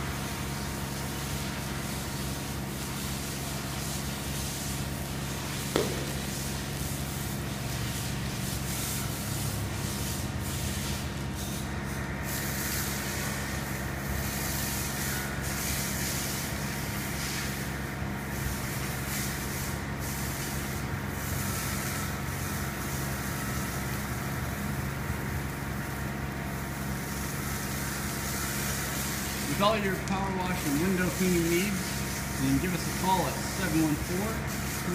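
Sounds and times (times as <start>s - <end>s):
high-pressure water jet hissing: 0.0s - 34.9s
pressure washer motor hum: 0.0s - 34.9s.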